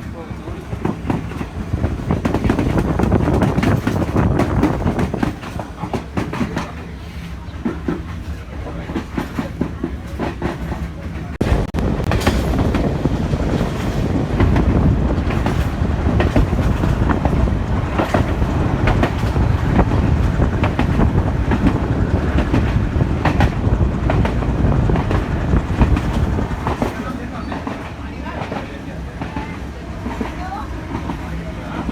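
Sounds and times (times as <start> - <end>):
train carriage rumbling: 0.0 - 31.9
wheels clacking over rail joints: 0.6 - 31.9.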